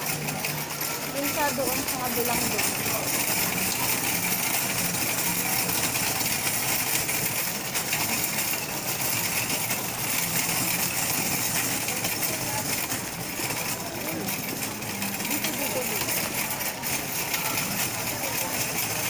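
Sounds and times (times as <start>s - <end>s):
shopping cart rattling and jingling: 0.0s - 19.0s.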